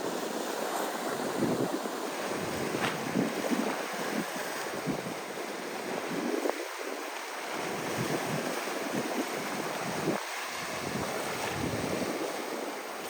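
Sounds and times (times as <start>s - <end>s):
sea waves washing: 0.0s - 13.0s
wind on microphone: 0.0s - 13.0s.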